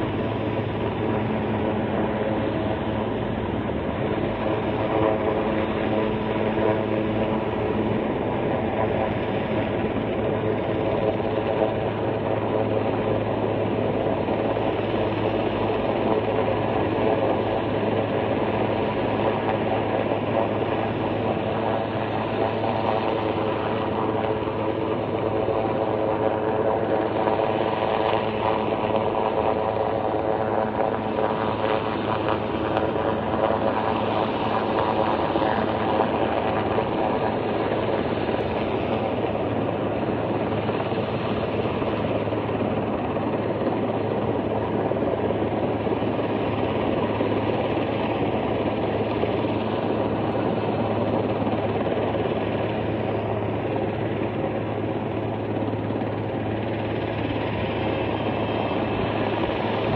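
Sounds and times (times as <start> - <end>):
helicopter hovering: 0.0 - 59.9.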